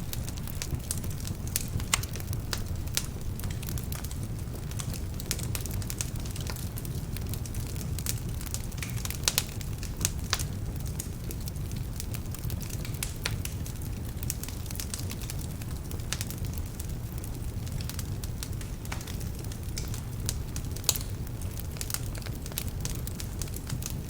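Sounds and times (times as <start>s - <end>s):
flames rumbling: 0.0s - 24.0s
wood fire crackling and popping: 0.0s - 24.0s.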